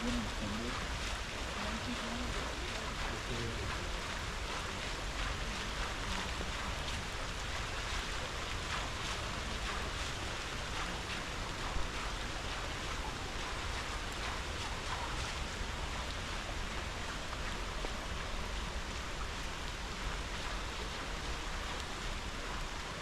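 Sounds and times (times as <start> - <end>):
rain falling: 0.0 - 23.0
river water rushing: 0.0 - 23.0.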